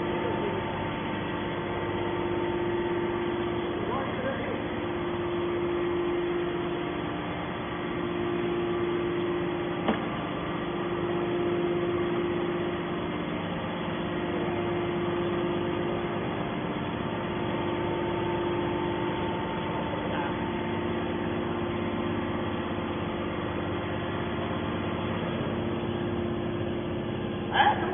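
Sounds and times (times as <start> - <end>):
baler motor and pump hum: 0.0 - 27.9.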